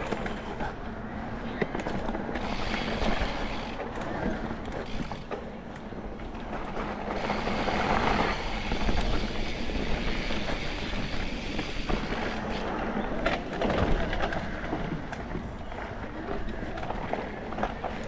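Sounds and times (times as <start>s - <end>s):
bike knocking and rattling: 0.0s - 18.0s
bike tyres rolling on dirt: 0.0s - 18.0s.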